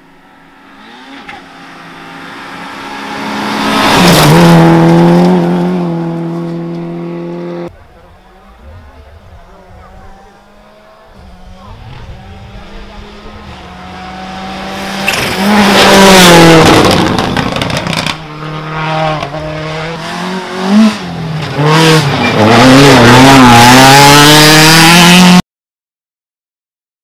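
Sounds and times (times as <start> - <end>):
rally car engine passing: 0.1 - 25.4.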